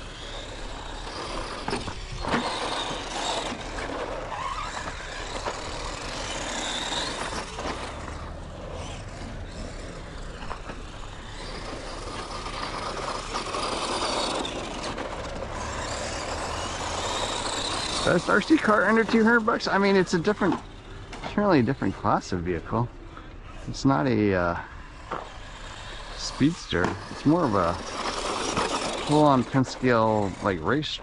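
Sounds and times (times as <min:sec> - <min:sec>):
electric motor and gears whining: 0:00.0 - 0:31.0
tyres rushing on loose dirt: 0:00.0 - 0:31.0.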